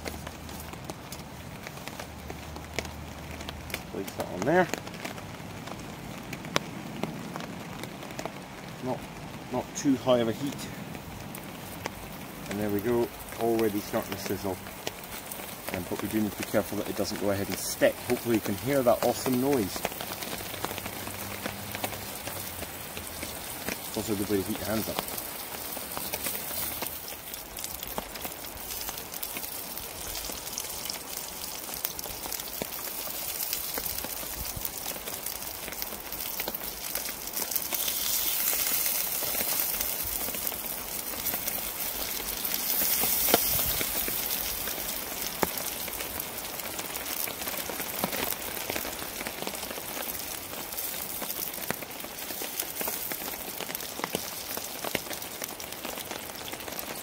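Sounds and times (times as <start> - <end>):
meat sizzling in a frying pan: 9.7 - 57.0.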